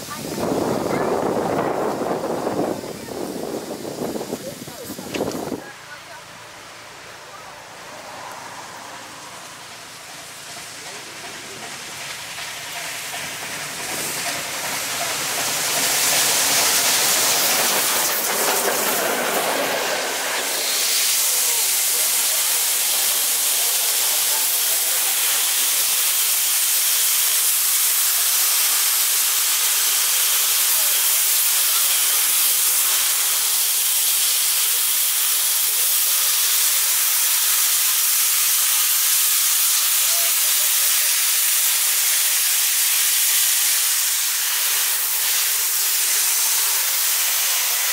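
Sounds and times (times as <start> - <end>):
steam hissing: 0.0 - 47.9
steam locomotive rumbling: 0.0 - 47.9.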